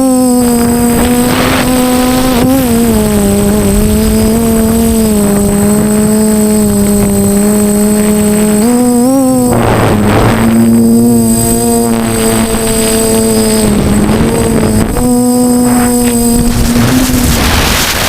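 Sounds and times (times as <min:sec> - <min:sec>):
drone motors whining: 0:00.0 - 0:18.0
wind noise: 0:00.0 - 0:18.0.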